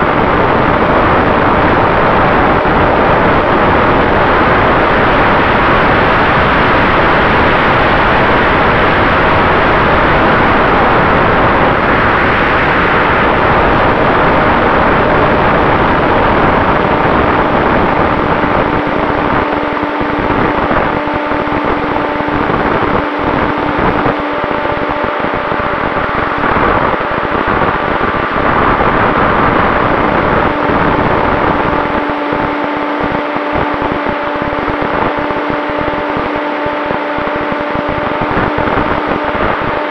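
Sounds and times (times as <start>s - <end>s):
electric motor and propeller hum: 0.0s - 39.9s
rushing wind noise: 0.0s - 39.9s.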